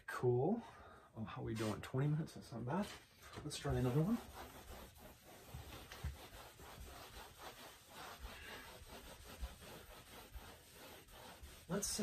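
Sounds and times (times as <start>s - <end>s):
cloth wiping chalkboard: 1.4s - 12.0s.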